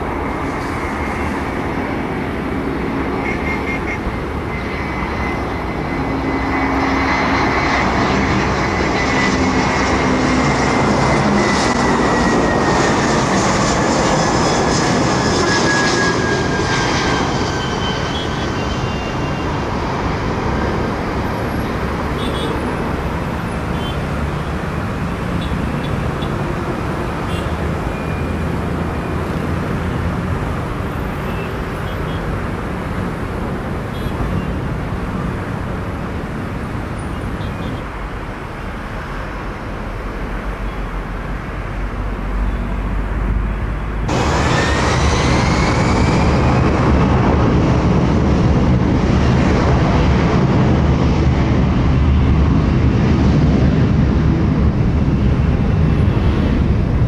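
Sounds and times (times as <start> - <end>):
jet engines rumble and rush: 0.0 - 57.0
rising jet engine whine: 0.0 - 57.0.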